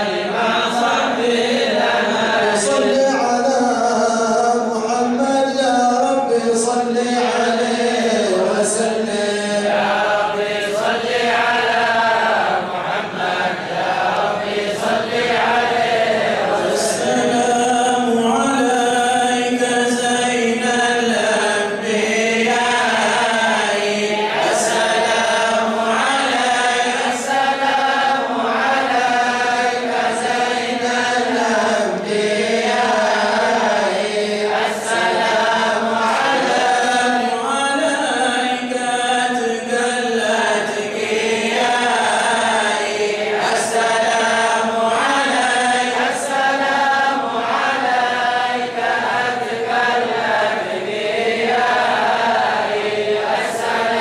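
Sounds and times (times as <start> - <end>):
men chanting: 0.0 - 54.0.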